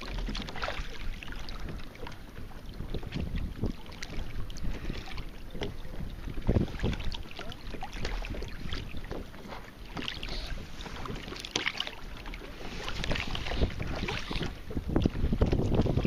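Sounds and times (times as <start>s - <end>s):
waves lapping against a hull: 0.0s - 16.0s
wind buffeting microphone: 0.0s - 16.0s.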